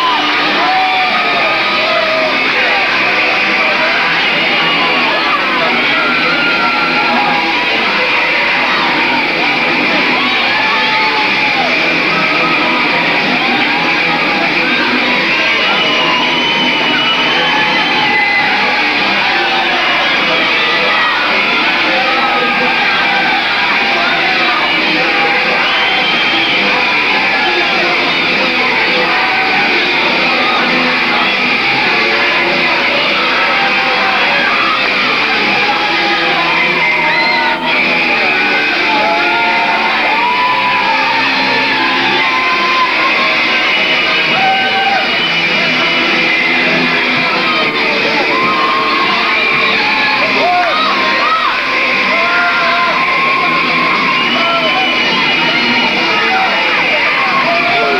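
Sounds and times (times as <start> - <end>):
loud rock music with guitar: 0.0 - 57.9
people yelling: 0.0 - 57.9.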